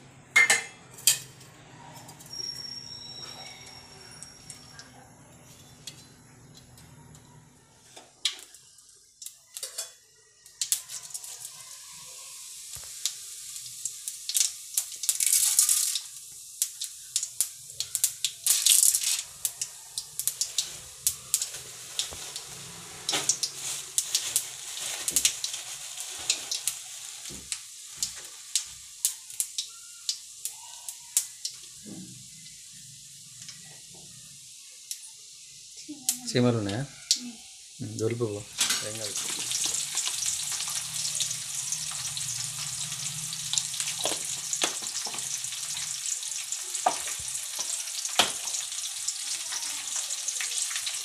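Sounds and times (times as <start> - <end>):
oil sizzling and popping: 7.8 - 51.0.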